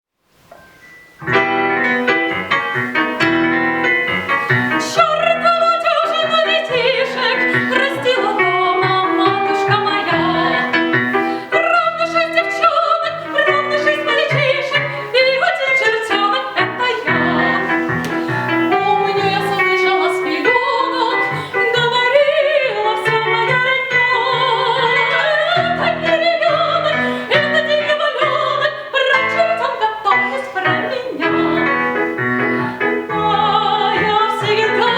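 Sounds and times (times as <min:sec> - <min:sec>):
piano accompaniment: 0:00.3 - 0:34.9
woman singing with vibrato: 0:04.6 - 0:34.9.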